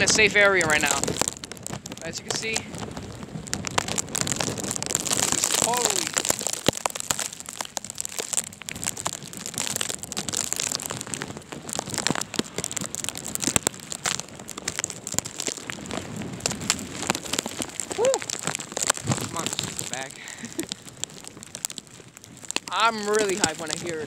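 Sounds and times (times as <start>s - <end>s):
sleet pellets crackling on fabric: 0.0s - 24.0s
wind rushing over microphone: 0.0s - 24.0s.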